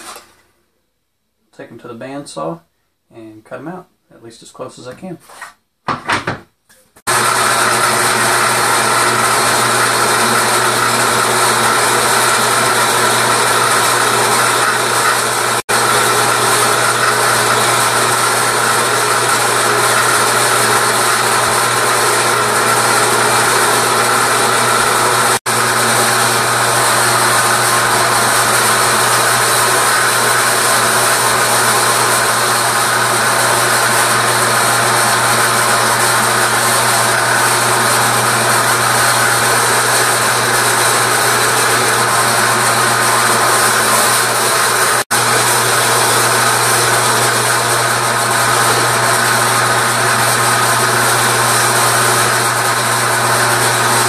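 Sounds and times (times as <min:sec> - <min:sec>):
bandsaw cutting wood: 0:07.0 - 0:54.0.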